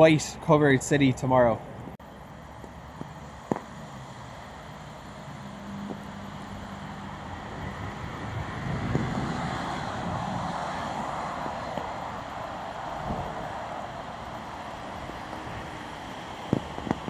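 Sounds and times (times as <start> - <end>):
tyres hissing on wet road: 2.4 - 17.0.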